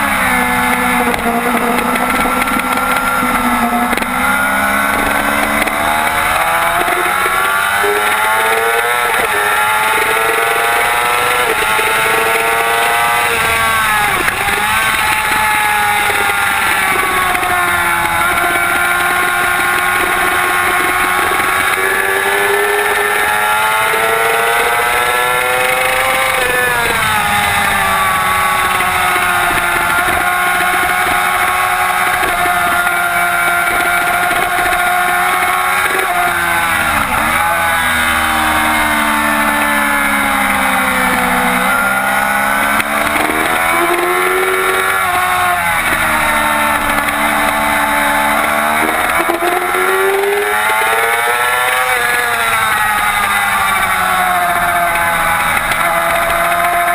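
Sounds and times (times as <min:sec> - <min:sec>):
motorcycle engine at racing revs: 0:00.0 - 0:56.9.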